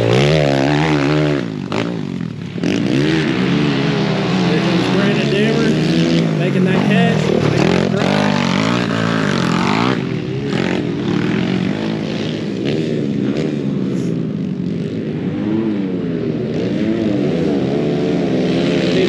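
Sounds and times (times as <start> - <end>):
pit bike engines revving: 0.0 - 19.0.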